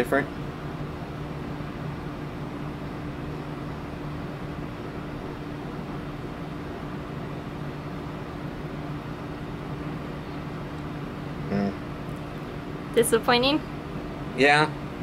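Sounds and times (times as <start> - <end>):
low mechanical hum with hiss: 0.0 - 15.0.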